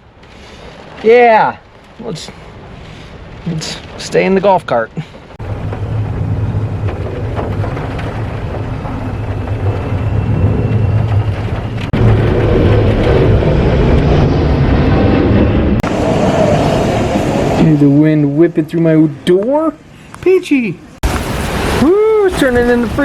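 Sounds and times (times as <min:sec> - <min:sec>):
wind buffeting microphone: 0:00.0 - 0:20.2.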